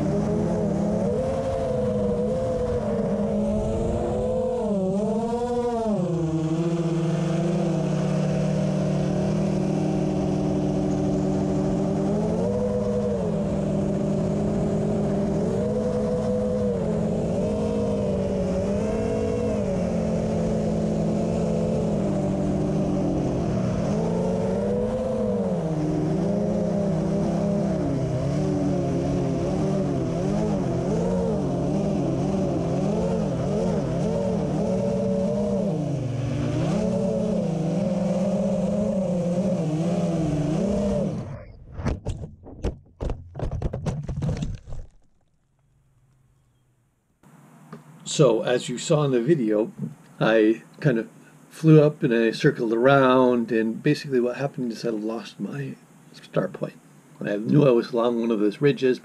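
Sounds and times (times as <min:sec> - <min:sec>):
drone propellers whining: 0:00.0 - 0:42.6, 0:47.2 - 0:59.0.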